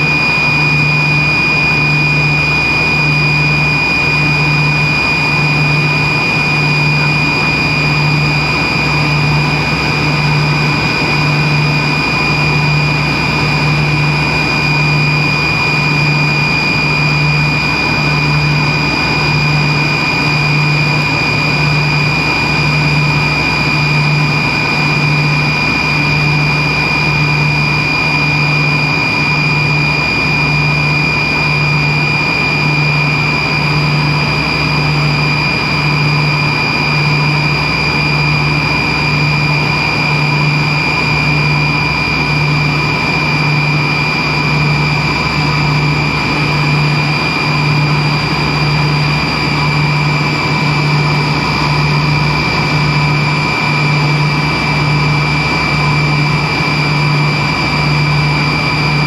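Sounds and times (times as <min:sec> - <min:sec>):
high-pitched whine: 0:00.0 - 0:59.0
jet engines rushing and humming: 0:00.0 - 0:59.0
low throbbing drone: 0:00.0 - 0:59.0.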